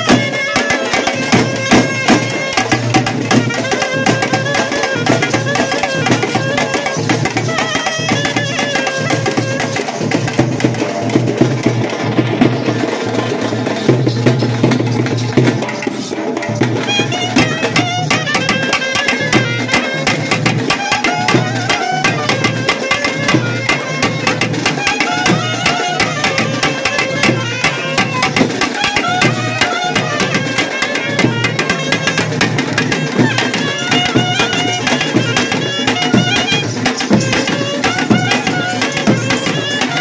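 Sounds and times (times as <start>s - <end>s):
clarinets playing folk tune: 0.0s - 10.3s, 16.7s - 40.0s
fast frame drum beat: 0.0s - 40.0s.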